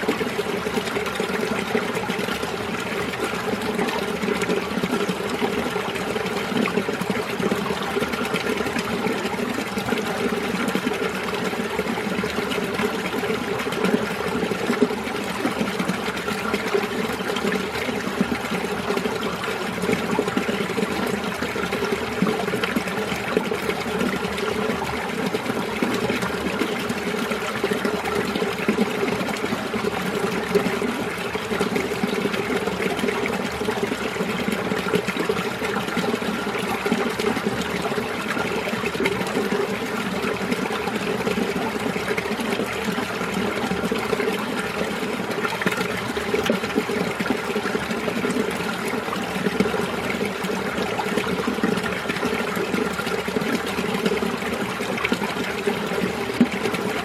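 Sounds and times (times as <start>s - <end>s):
stream babbling over rocks: 0.0s - 57.0s.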